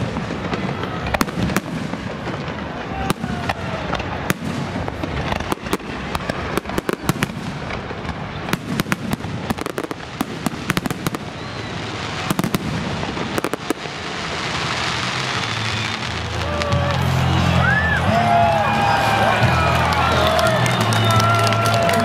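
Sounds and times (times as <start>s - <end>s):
fireworks cracking and popping: 0.0s - 22.0s.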